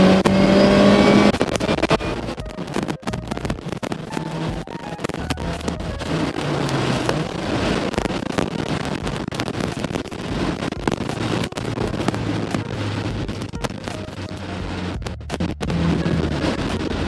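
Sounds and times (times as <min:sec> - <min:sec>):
car engine under full throttle: 0:00.0 - 0:17.0
road and wind noise: 0:00.0 - 0:17.0.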